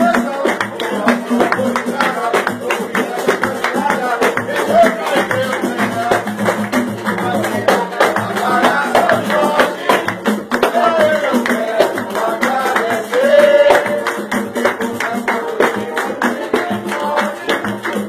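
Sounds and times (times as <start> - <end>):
tambourine and hand drum rhythm: 0.0 - 18.0
voices singing together: 0.0 - 18.0.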